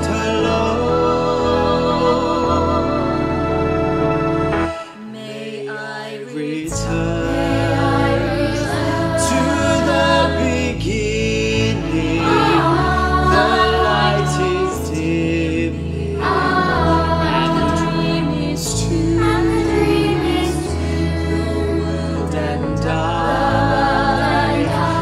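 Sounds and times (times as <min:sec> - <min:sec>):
solo voice singing: 0:00.0 - 0:03.8, 0:04.5 - 0:25.0
cello: 0:00.0 - 0:25.0
choir singing in harmony: 0:00.0 - 0:25.0
piano: 0:00.0 - 0:25.0.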